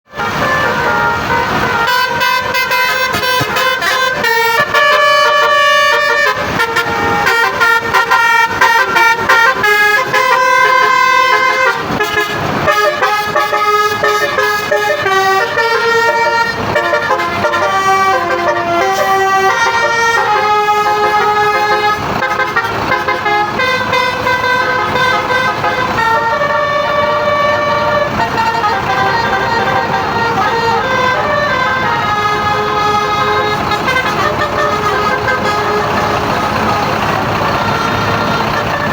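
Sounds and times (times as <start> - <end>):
musical bus horn playing tune: 0.0 - 38.9.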